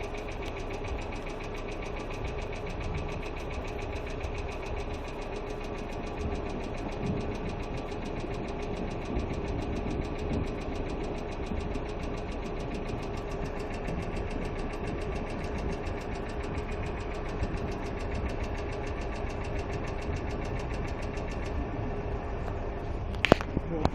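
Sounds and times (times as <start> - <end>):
car engine idling: 0.0 - 23.9
fast valvetrain ticking: 0.0 - 23.9.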